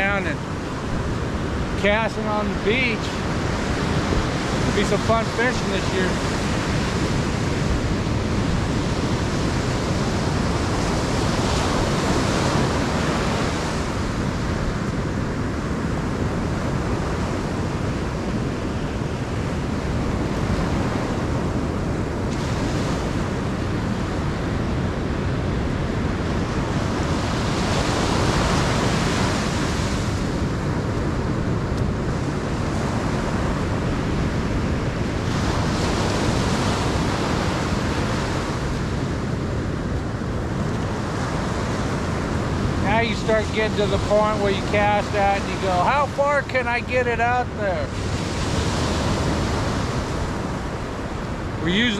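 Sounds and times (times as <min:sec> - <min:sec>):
ocean surf breaking on beach: 0:00.0 - 0:51.9.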